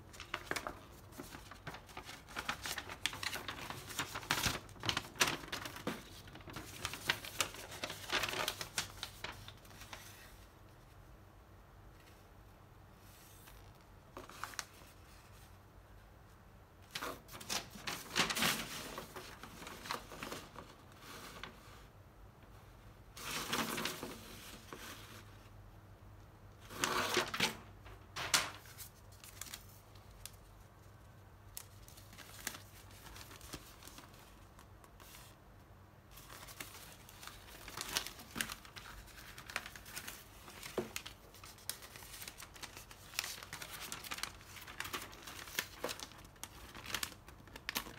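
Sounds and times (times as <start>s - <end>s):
paper sheets rustling: 0.0s - 10.5s, 13.0s - 15.6s, 16.8s - 21.9s, 23.1s - 25.4s, 26.6s - 35.4s, 36.1s - 47.9s.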